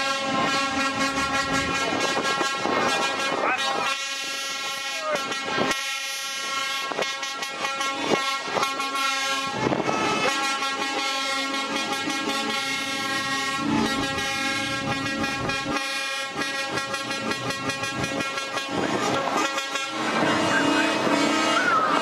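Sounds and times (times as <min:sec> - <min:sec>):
truck air horns: 0:00.0 - 0:22.0.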